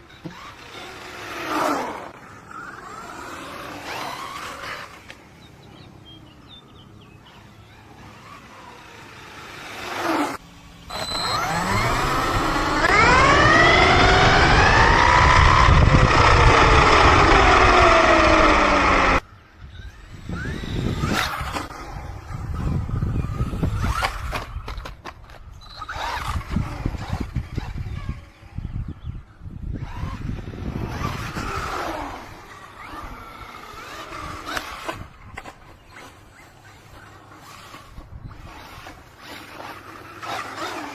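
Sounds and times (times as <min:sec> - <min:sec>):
electric motor whining: 0:00.0 - 0:05.4, 0:07.2 - 0:40.9.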